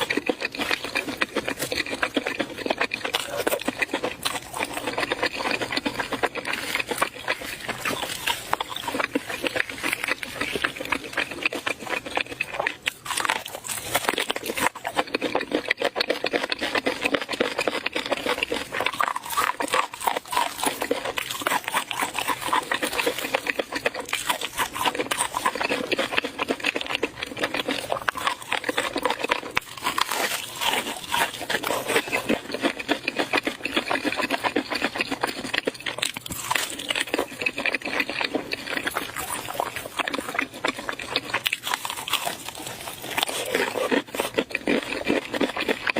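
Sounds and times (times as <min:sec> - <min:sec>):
wet chewing and mouth smacking: 0:00.0 - 0:45.9.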